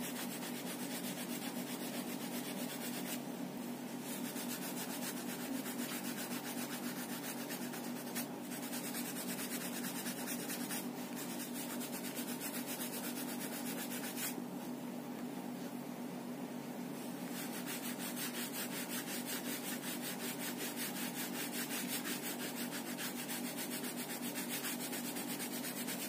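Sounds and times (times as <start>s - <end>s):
oil pastel rubbing on paper: 0.0s - 3.2s, 4.0s - 14.4s, 17.2s - 26.0s.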